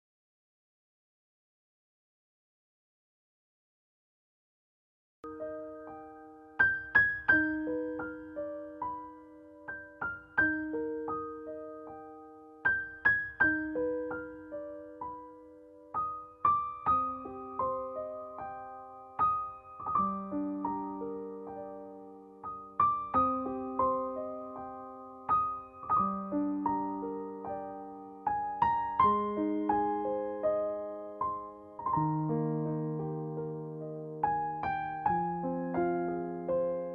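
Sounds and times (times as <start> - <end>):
gentle solo piano: 5.2 - 36.9.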